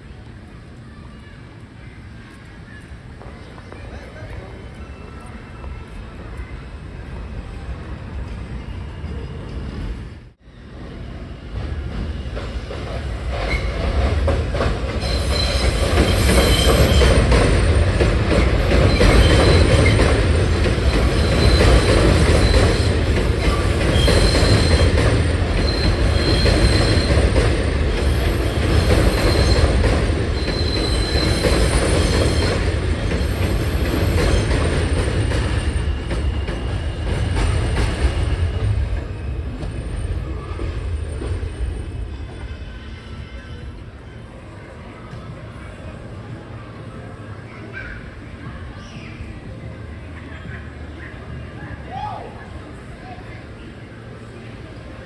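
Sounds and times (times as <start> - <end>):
subway train rumble: 0.0 - 55.0
wheels squealing on rails: 0.1 - 55.0.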